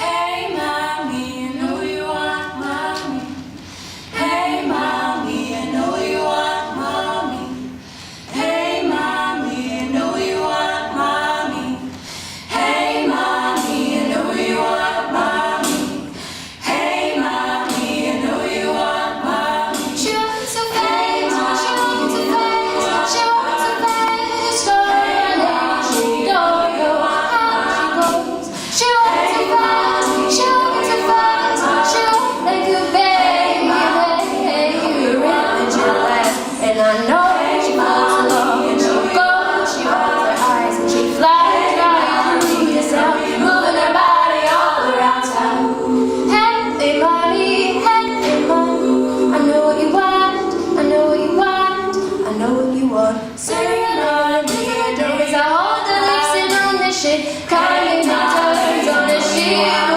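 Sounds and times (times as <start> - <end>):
women singing a cappella harmony: 0.0 - 59.9.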